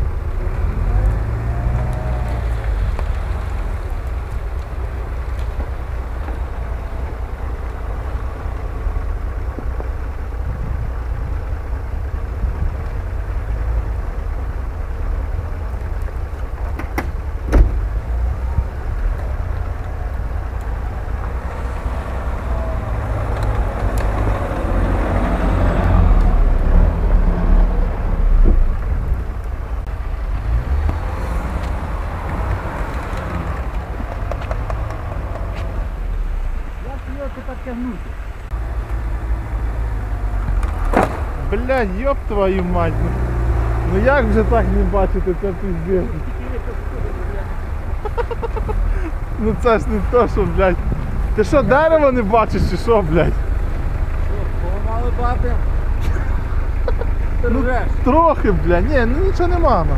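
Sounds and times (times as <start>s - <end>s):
off-road engines in snow: 0.0s - 59.9s
pickup engine revving: 0.0s - 59.9s.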